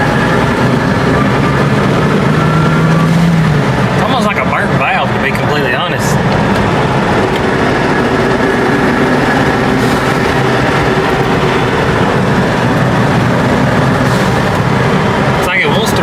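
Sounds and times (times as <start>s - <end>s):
car engine drone with misfire: 0.0s - 16.0s
road noise: 0.0s - 16.0s.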